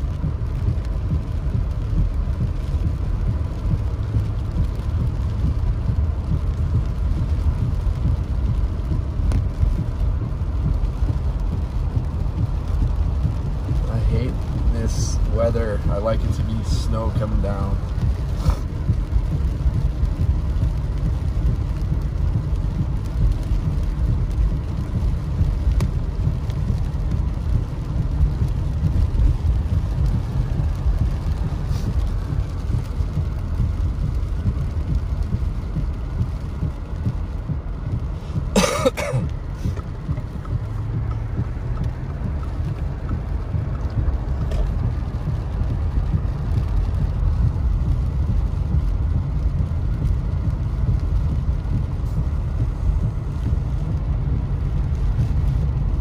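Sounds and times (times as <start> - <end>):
car engine and tyres on wet road: 0.0 - 56.0
rain on windshield: 0.0 - 56.0.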